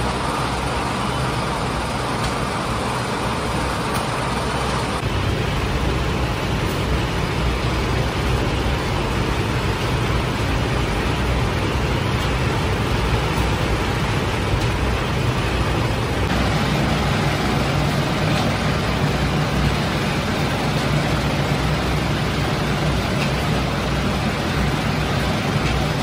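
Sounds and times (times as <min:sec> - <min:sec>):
extractor fan rushing: 0:00.0 - 0:26.0
oven machinery hum: 0:00.0 - 0:26.0.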